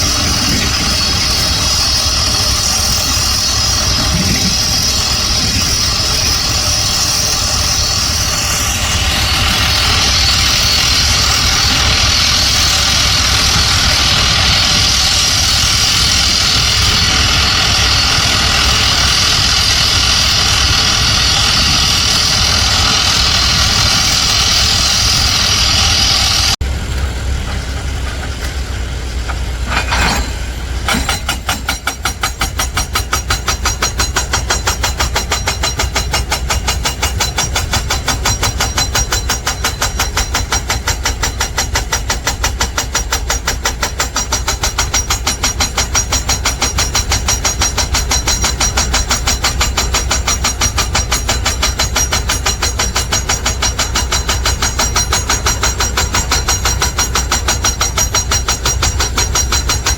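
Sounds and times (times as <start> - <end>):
diesel machinery pulsing rumble: 0.0 - 59.9.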